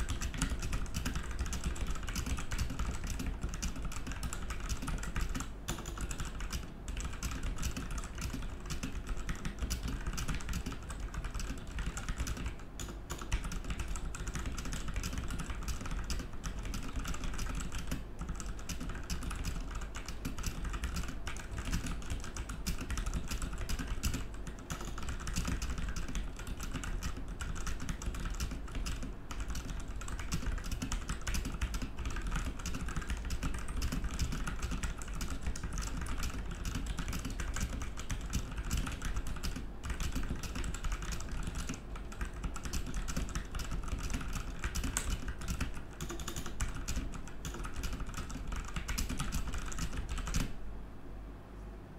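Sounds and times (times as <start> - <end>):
fast typing on mechanical keyboard: 0.0 - 50.6.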